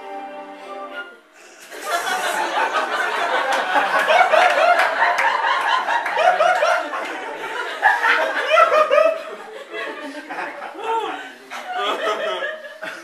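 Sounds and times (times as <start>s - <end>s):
audience laughing: 1.6s - 13.0s.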